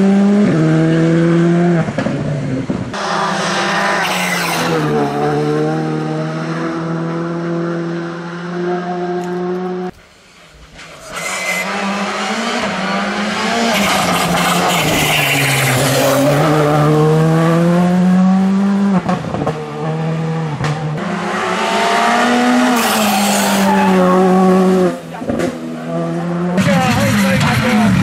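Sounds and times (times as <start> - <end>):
rally car engine accelerating: 0.0 - 9.9, 11.0 - 28.0.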